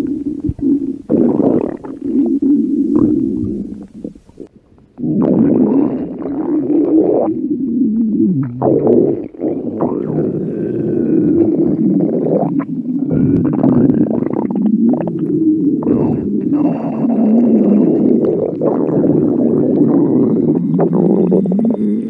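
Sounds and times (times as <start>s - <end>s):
stomach rumbling and gurgling: 0.0s - 22.0s.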